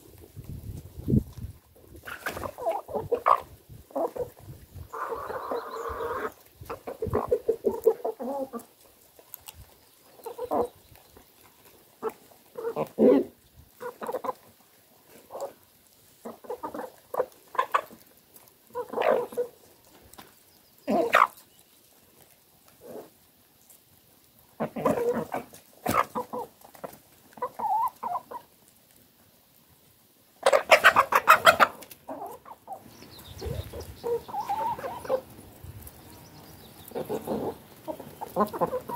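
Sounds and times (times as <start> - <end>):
chickens clucking: 0.0 - 21.6, 24.5 - 28.6, 30.4 - 38.9.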